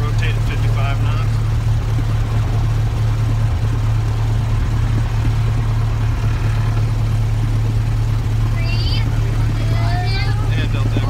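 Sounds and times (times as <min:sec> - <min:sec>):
light airplane engine drone: 0:00.0 - 0:11.0.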